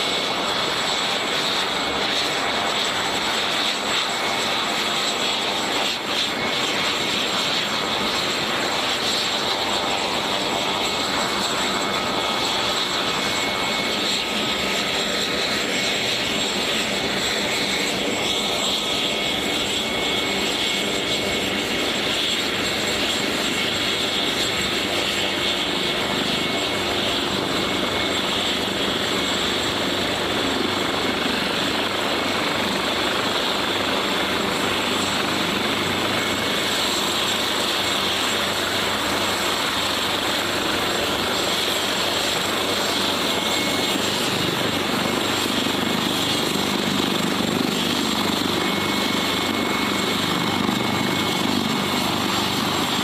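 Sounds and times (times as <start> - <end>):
helicopter rotors rushing: 0.0 - 53.0
helicopter turbine whine: 0.0 - 53.0.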